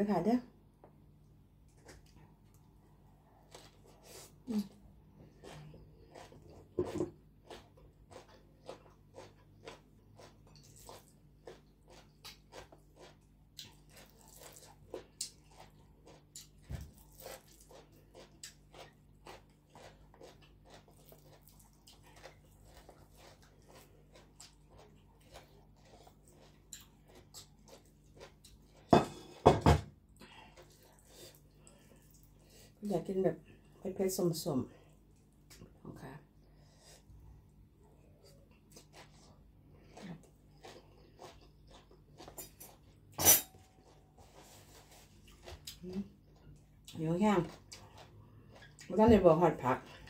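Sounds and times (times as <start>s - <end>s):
person chewing crunchy food: 1.6s - 29.4s, 30.0s - 32.7s, 36.4s - 48.9s.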